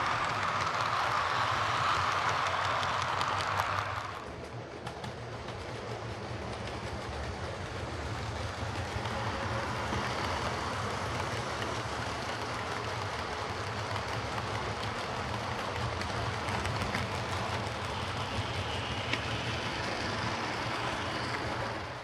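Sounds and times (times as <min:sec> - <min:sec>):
model locomotive motor whirring: 0:00.0 - 0:22.0
wheels rumbling on rails: 0:00.0 - 0:22.0.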